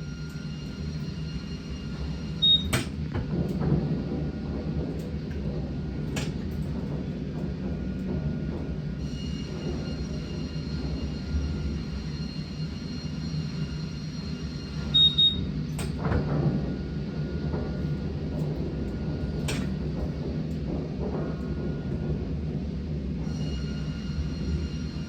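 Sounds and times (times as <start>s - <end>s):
sawmill machinery rumble and whine: 0.0s - 25.0s.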